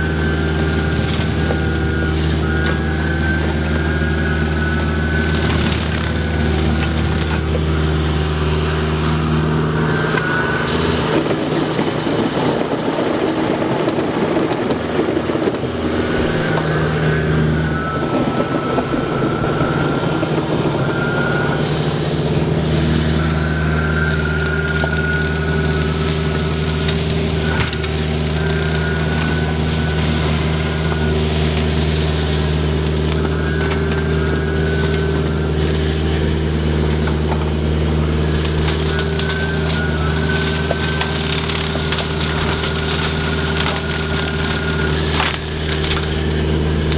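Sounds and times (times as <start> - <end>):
machine engine running: 0.0 - 12.6, 14.3 - 46.9
brush mower cutting brush: 0.0 - 46.9
wood crackling in mower: 0.0 - 46.9.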